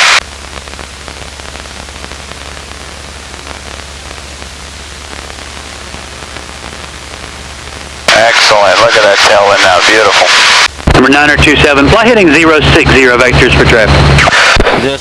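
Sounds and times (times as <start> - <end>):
intercom audio hiss: 0.0 - 15.0.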